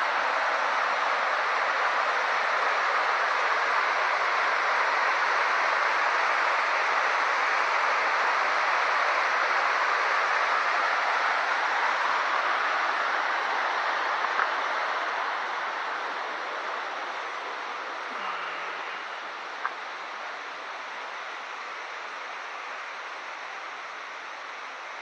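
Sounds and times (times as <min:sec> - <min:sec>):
river rapids rushing over rocks: 0:00.0 - 0:25.0.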